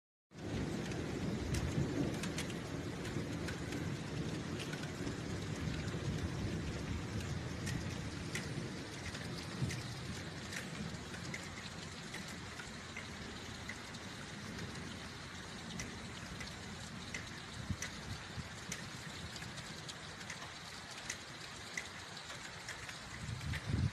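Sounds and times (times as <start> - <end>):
heavy rain pouring: 0.3 - 23.9
rolling thunder rumble: 0.4 - 23.9
drops ticking on surfaces: 0.6 - 23.9.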